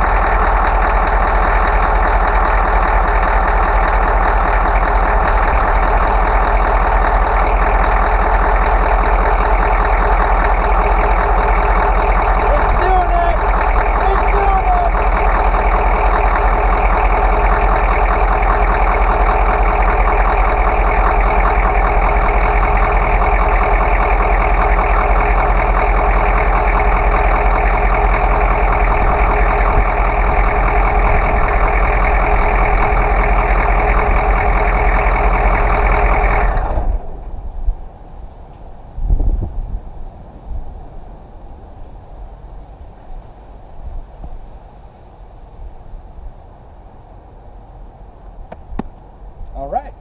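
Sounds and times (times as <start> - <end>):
diesel engine idling: 0.0 - 38.5, 46.6 - 50.0.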